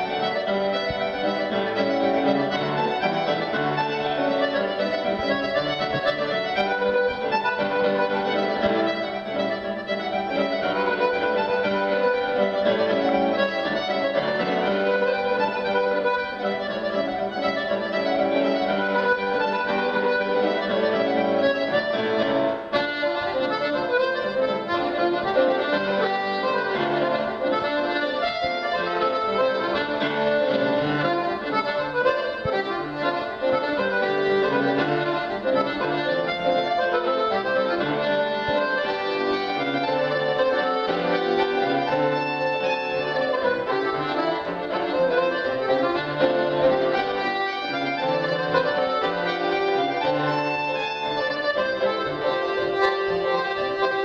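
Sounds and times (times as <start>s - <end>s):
accordion melody: 0.0s - 54.0s
grand piano: 0.0s - 54.0s.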